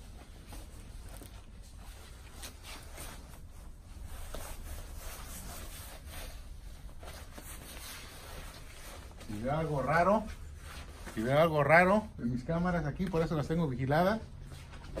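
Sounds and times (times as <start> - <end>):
fabric and straps rustling: 0.0 - 15.0.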